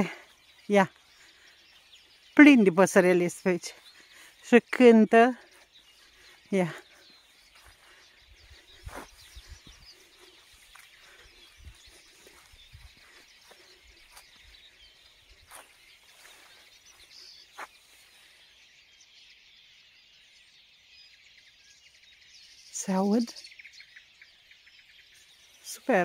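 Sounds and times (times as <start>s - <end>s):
songbirds singing and chirping: 0.0s - 26.0s.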